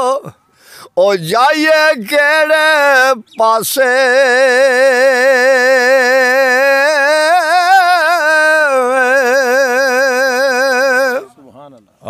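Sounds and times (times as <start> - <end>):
man singing long note: 1.0 - 11.3.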